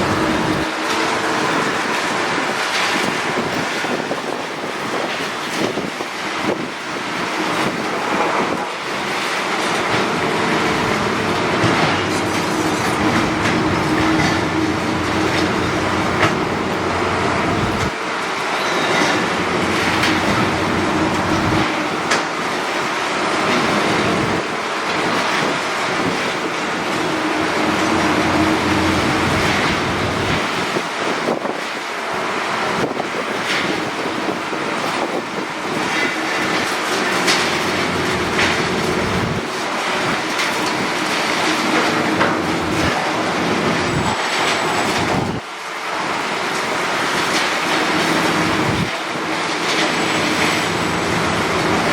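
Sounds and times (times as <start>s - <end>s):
demolition machinery rumbling: 0.0s - 51.9s
excavator engine and hydraulics: 0.0s - 51.9s.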